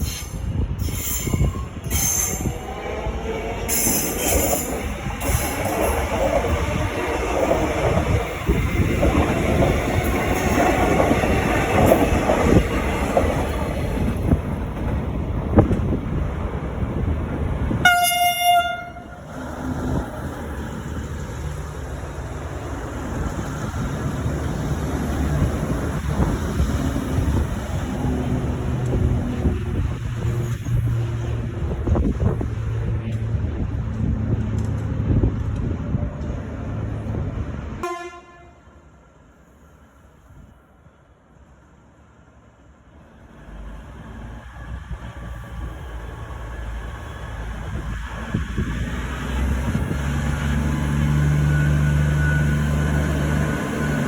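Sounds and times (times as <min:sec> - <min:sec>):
train wheels and engines: 0:00.0 - 0:54.0.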